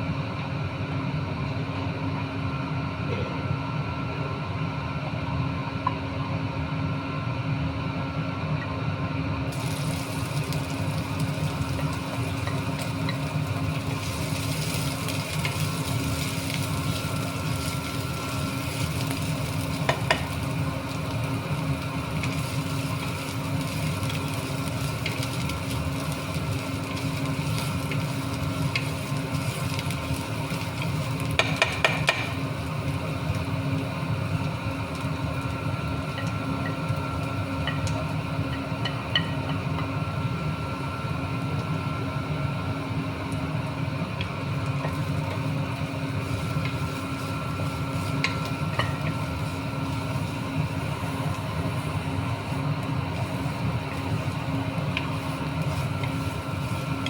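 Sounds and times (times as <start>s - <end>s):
chicken wings sizzling in a pan: 9.4s - 57.0s.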